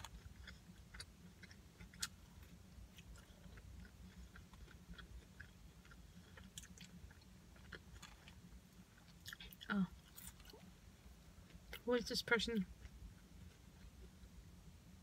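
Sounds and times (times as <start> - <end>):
chewing fries: 0.0 - 14.5
low steady hum: 0.0 - 15.0.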